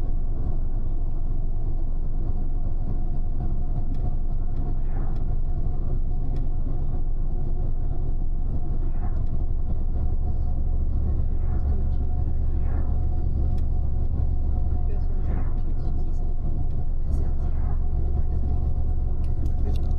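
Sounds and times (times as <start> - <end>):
bus engine and road rumble: 0.0 - 19.9.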